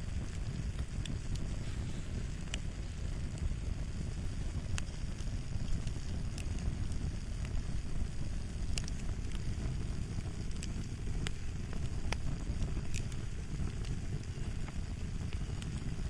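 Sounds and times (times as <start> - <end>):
fire popping: 0.0 - 16.0
fire rumbling: 0.0 - 16.0.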